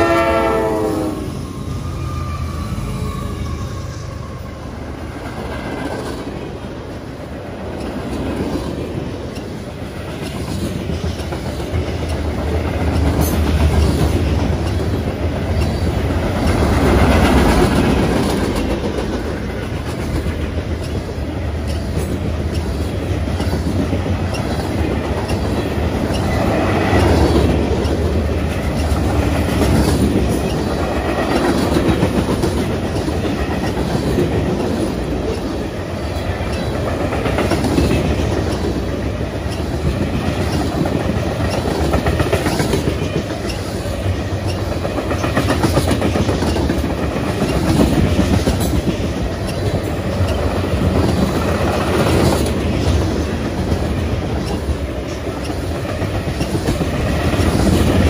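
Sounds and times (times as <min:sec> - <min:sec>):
train wheels clattering on rails: 0:04.8 - 0:58.0.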